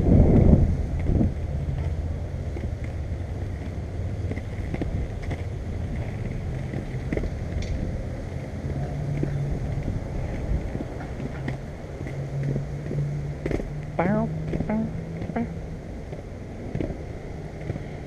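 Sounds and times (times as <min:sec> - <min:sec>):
skateboard wheels rolling on concrete: 0:00.0 - 0:18.0
wind buffeting microphone: 0:00.0 - 0:18.0
wheels clicking over slab joints: 0:00.3 - 0:15.4.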